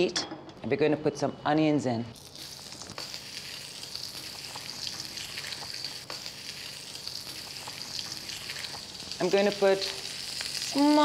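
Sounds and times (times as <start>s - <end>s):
onions sizzling in a frying pan: 2.2s - 11.0s.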